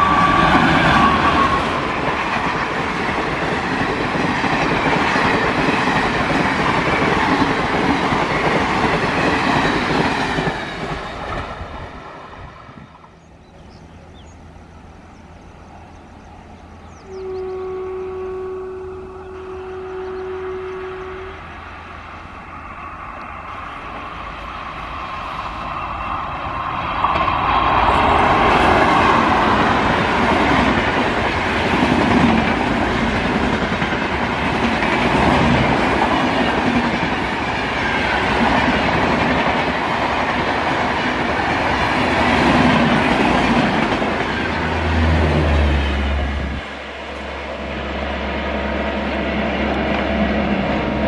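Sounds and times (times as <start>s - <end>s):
train passing at speed: 0.0s - 51.0s.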